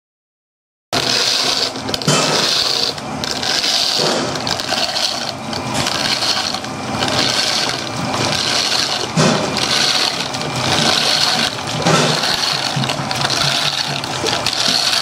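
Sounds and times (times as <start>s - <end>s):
power mixer churning grout: 1.0s - 15.0s
water pouring: 1.0s - 15.0s.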